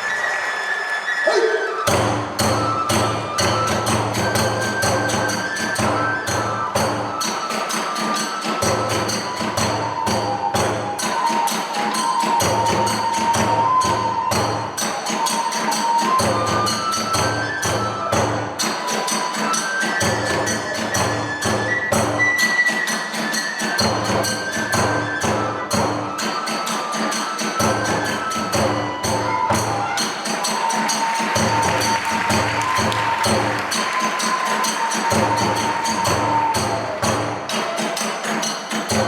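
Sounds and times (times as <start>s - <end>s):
bamboo flute melody: 0.0s - 39.0s.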